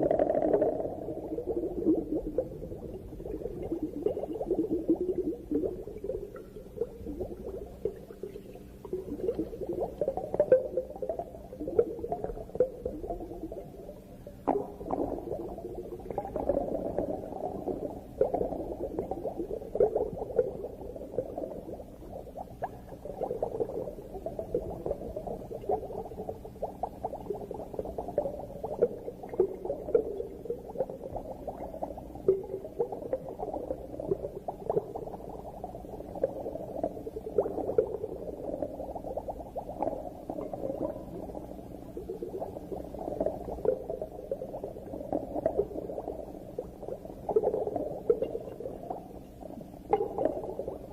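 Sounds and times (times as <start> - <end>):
underwater crackling and bubbling: 0.0 - 50.9.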